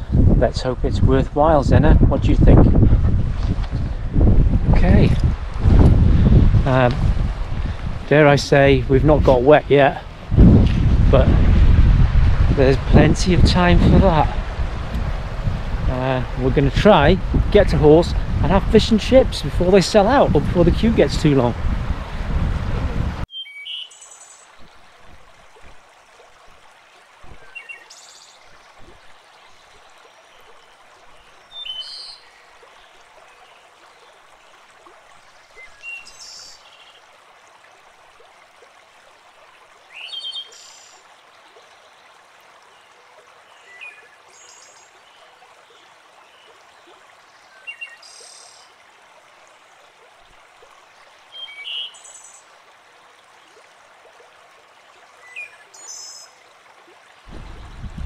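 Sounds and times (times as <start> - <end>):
water rushing over stones: 0.0 - 23.3, 24.1 - 58.0.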